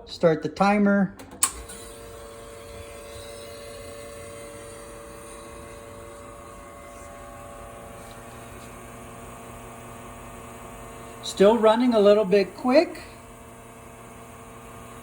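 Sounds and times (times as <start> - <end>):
espresso machine pump humming: 1.4 - 15.0.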